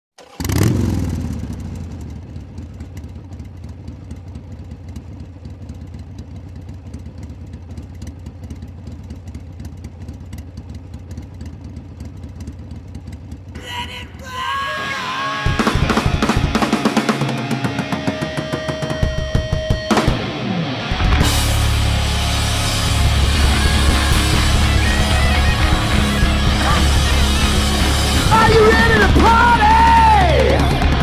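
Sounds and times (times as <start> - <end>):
motorcycle engine revving and idling: 0.2 - 13.6, 15.5 - 20.3, 21.0 - 31.0.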